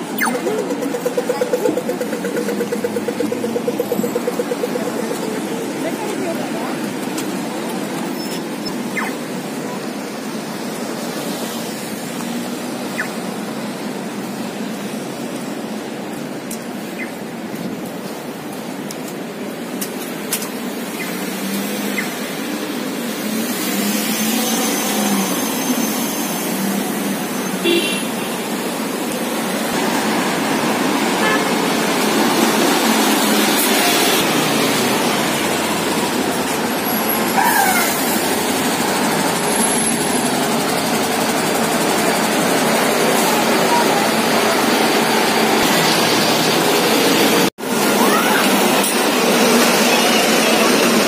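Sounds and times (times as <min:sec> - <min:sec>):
buses and cars passing: 0:00.0 - 0:51.0.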